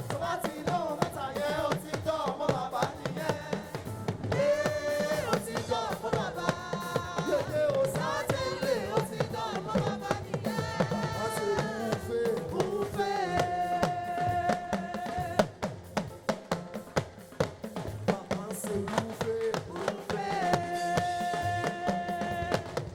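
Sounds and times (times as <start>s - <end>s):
drum kit: 0.0s - 22.9s.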